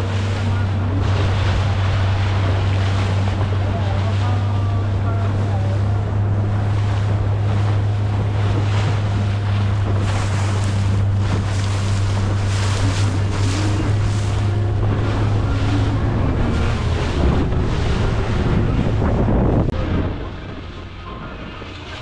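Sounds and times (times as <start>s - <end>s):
motorboat engine droning: 0.0s - 22.0s
waves washing and spraying: 0.0s - 22.0s
wind buffeting microphone: 0.0s - 22.0s.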